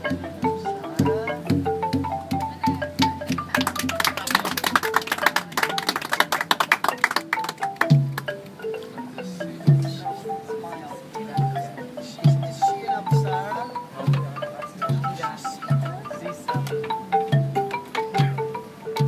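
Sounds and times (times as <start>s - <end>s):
wooden xylophone melody: 0.0s - 19.0s.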